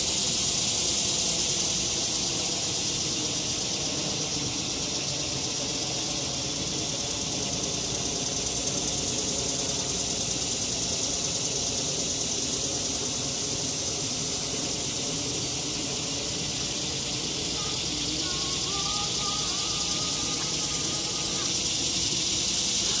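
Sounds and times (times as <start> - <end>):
steady high-pitched hiss: 0.0 - 23.0.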